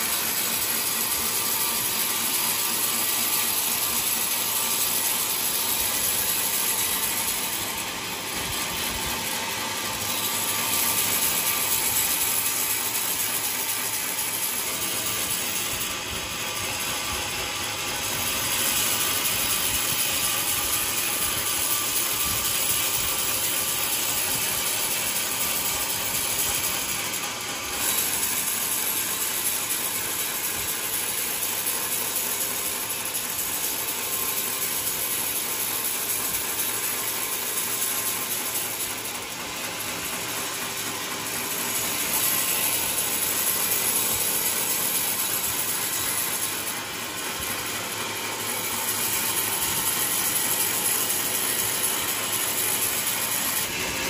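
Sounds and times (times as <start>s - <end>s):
sawmill saw cutting log: 0.0s - 54.0s.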